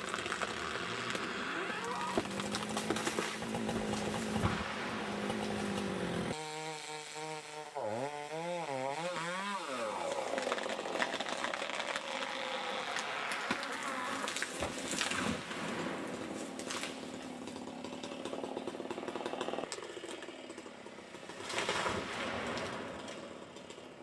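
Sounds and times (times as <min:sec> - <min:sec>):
two-stroke chainsaw running: 0:00.0 - 0:14.7, 0:15.6 - 0:21.9.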